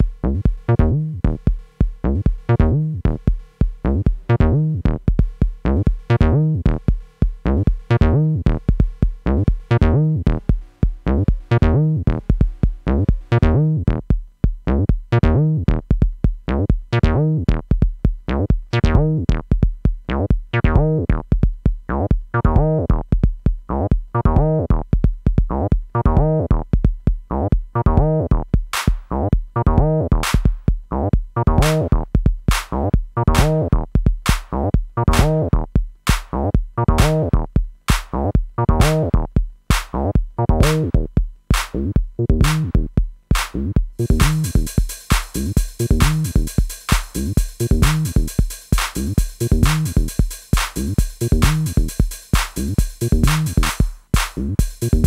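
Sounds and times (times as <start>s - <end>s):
drum machine beat: 0.0s - 55.0s.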